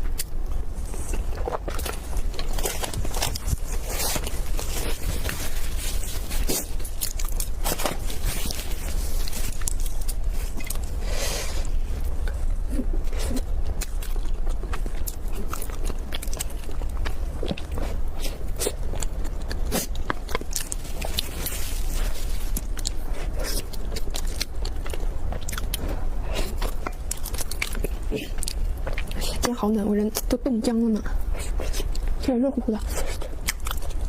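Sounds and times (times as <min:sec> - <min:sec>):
person chewing: 0:00.0 - 0:29.6, 0:31.1 - 0:32.2, 0:32.8 - 0:34.0
steady low hum: 0:00.0 - 0:34.0.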